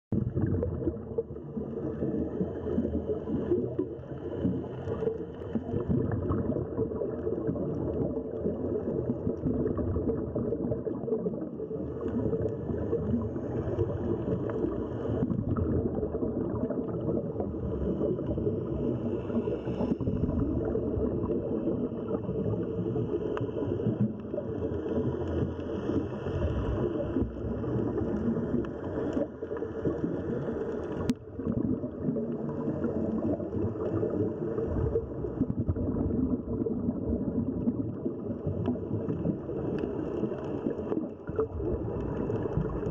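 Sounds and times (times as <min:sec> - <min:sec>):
muffled underwater rumble: 0:00.1 - 0:42.9.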